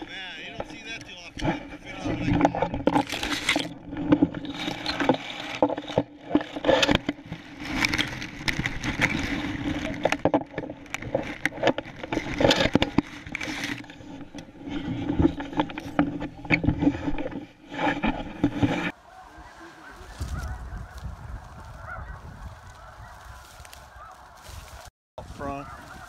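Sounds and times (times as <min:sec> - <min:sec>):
dry grass rustling against camera: 0:00.0 - 0:26.0.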